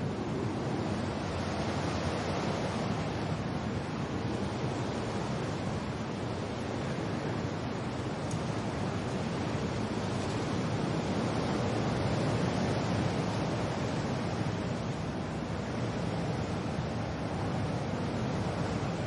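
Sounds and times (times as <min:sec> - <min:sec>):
rain: 0:00.0 - 0:19.0
wind: 0:00.0 - 0:19.0.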